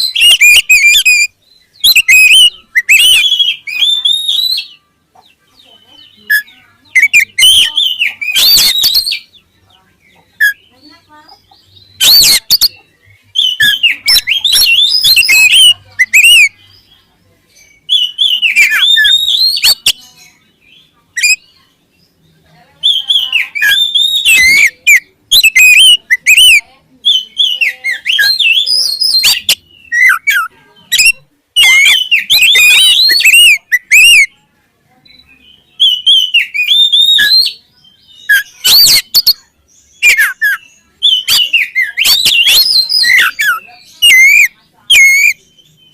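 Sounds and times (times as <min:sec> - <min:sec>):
songbird singing whistled phrases: 0:00.0 - 0:05.0, 0:05.6 - 0:34.4, 0:35.0 - 0:45.9.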